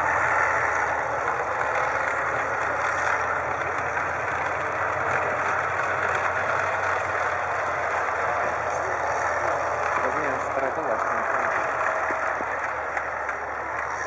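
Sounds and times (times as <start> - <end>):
tank engine running: 0.0 - 14.0.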